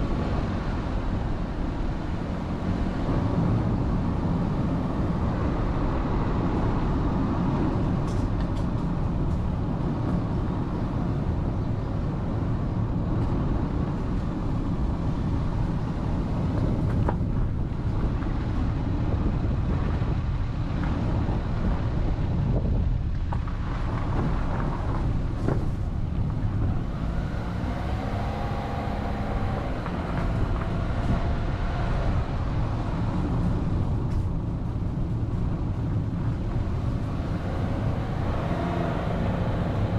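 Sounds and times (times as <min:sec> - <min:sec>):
vehicle driving on road: 0:00.0 - 0:39.9.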